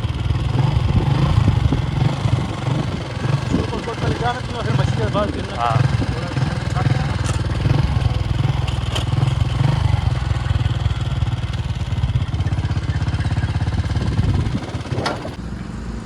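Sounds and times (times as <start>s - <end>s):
small engine throbbing: 0.0s - 16.0s.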